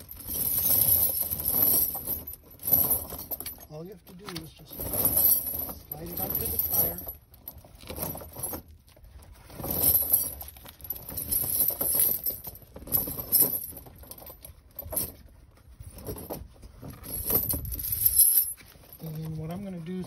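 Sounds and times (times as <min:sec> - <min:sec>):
chain links clinking and rattling: 0:00.0 - 0:20.0.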